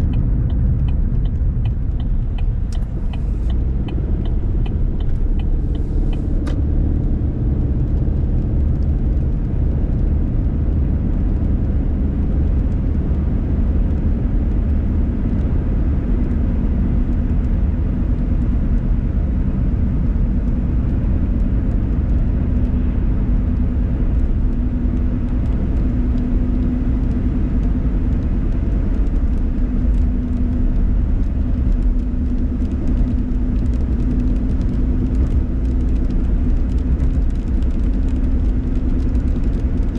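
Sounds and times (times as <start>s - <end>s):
road rumble and engine hum: 0.0s - 39.9s
tyre noise on wet road: 0.1s - 39.9s.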